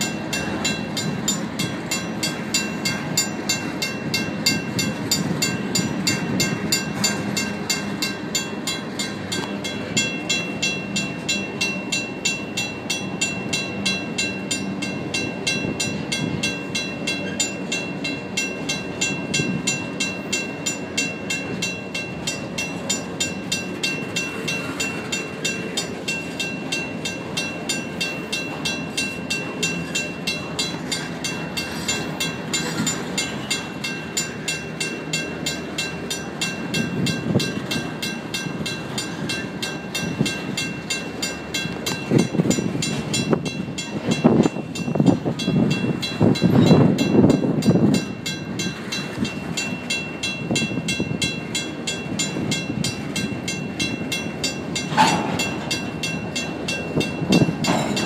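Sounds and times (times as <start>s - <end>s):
freight cars rumbling on rails: 0.0s - 58.0s
mechanical crossing bell ringing: 0.0s - 58.0s.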